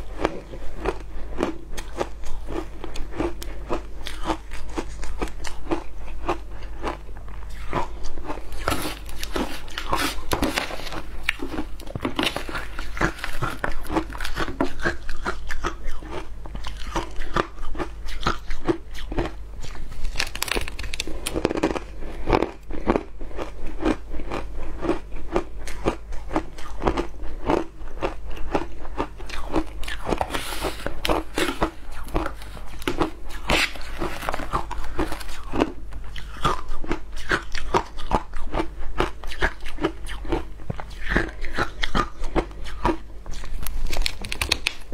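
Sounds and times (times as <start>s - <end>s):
shaved ice crunching while chewed: 0.0s - 44.9s.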